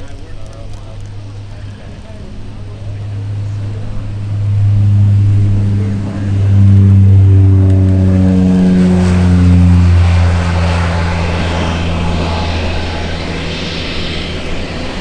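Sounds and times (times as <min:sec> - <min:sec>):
turboprop aircraft taking off: 0:00.0 - 0:15.0.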